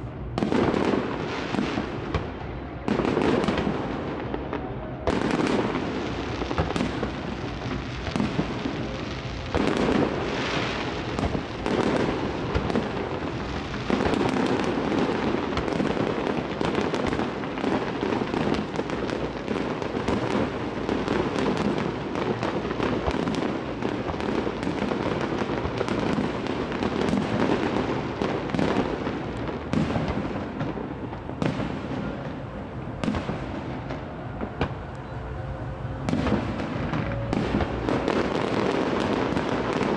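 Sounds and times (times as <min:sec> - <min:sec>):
distant fireworks bangs and crackling: 0:00.0 - 0:39.9.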